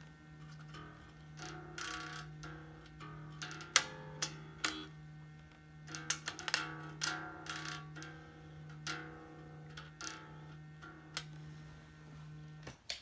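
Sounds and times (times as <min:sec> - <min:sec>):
low amplifier hum: 0:00.0 - 0:13.0
unamplified bass strings plucked: 0:00.4 - 0:12.6.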